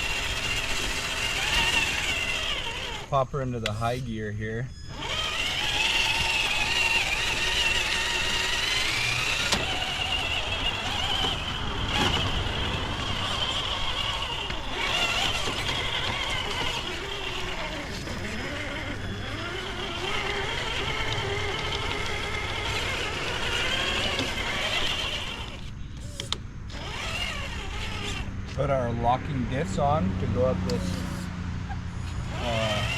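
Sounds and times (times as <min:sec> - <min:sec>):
electric motor and gears whining: 0:00.0 - 0:32.9.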